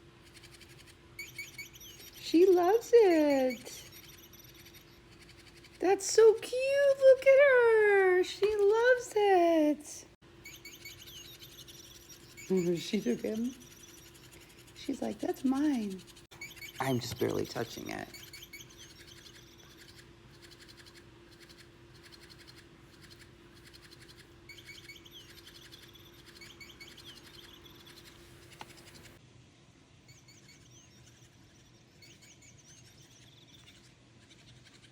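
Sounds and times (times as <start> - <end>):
electronic bird toy chirping: 0.2 - 6.3, 10.4 - 29.2, 30.1 - 34.9.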